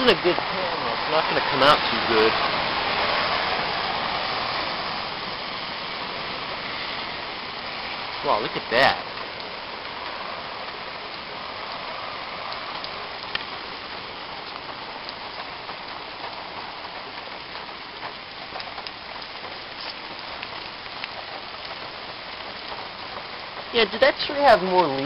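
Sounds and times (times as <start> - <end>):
heavy rain splattering: 0.0 - 25.0.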